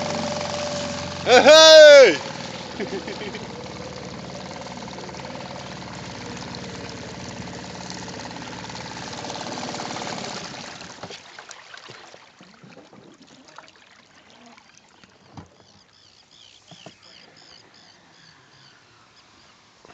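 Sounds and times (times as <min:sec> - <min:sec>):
water trickling and lapping: 0:00.0 - 0:01.3, 0:02.1 - 0:19.9
outboard motor running: 0:00.0 - 0:19.9.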